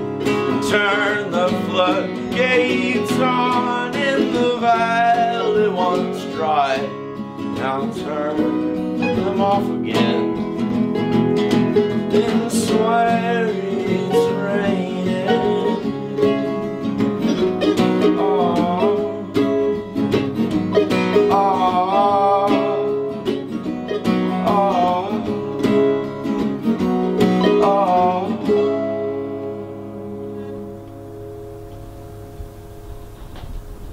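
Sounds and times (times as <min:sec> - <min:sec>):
acoustic guitar: 0:00.0 - 0:33.9
plucked string instrument: 0:00.0 - 0:33.9.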